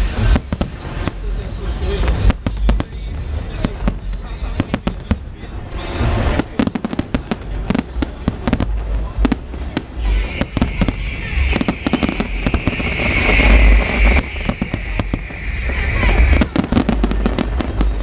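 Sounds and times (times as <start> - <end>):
deep booming rumble: 0.0 - 18.0
fireworks bangs: 0.0 - 18.0.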